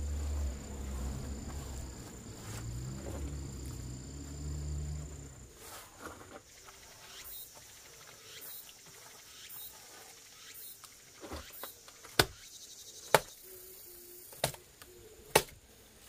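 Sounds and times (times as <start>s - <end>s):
insects chirring: 0.0s - 15.3s.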